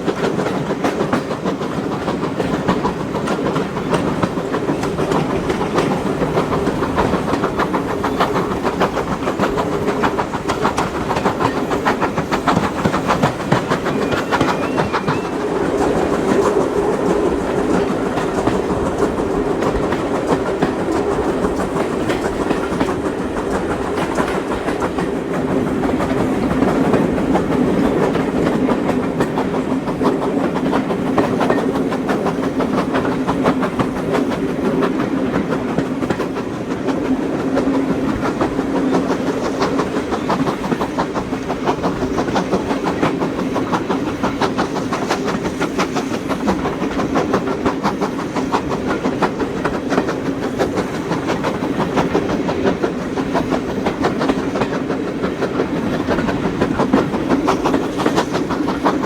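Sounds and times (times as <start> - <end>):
steady train hum: 0.0 - 59.0
train wheels clicking on rails: 0.0 - 59.0.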